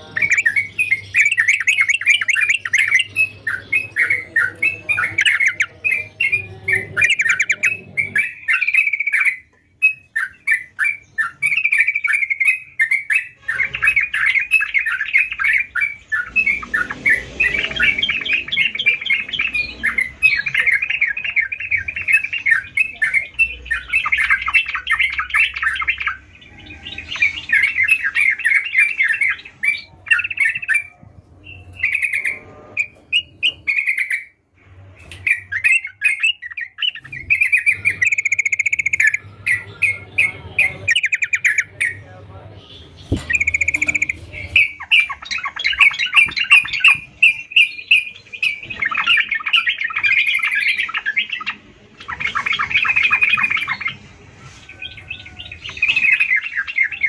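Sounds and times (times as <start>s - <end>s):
bulbul chattering song: 0.0s - 57.0s.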